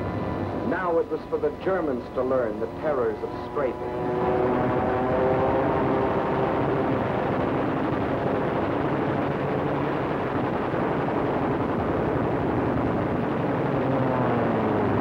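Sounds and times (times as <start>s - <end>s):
warplane engine at full power: 0.0s - 15.0s.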